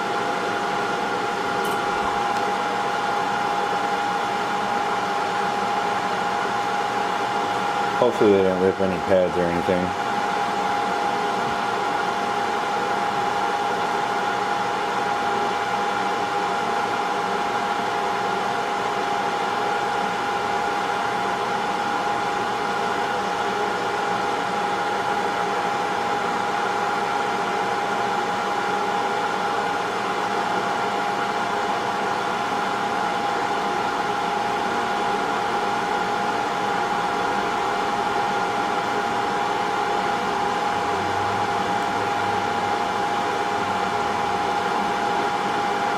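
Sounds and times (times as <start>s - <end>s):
hot-air blower fan whine: 0.0s - 45.9s.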